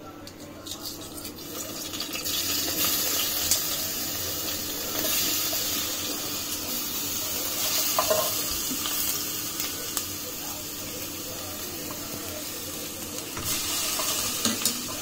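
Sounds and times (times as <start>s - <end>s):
garlic sizzling in hot oil: 0.8s - 15.0s.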